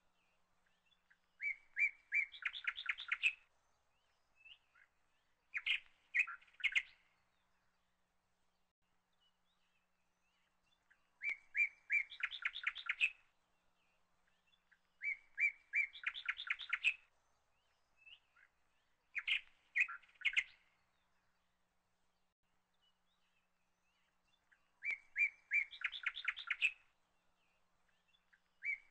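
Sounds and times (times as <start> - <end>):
songbird singing: 0.0 - 28.9.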